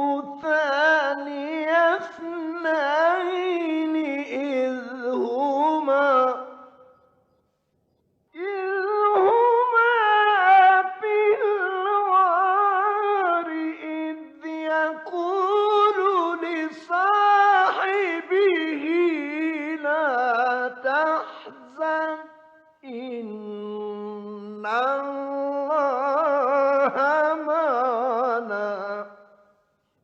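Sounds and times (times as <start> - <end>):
solo voice chanting recitation: 0.0 - 7.0, 8.4 - 29.6.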